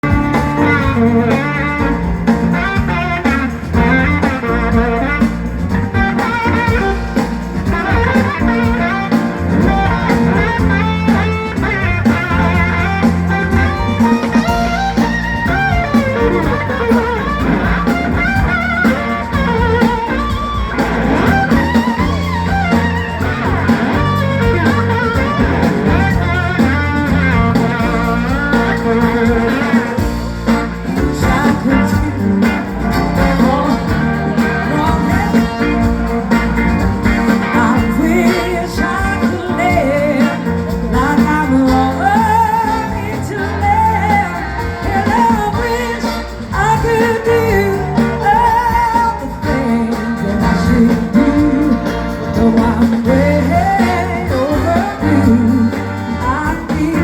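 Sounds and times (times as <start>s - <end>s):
bass: 0.0s - 57.0s
drum kit: 0.0s - 57.0s
electric guitar: 0.0s - 57.0s.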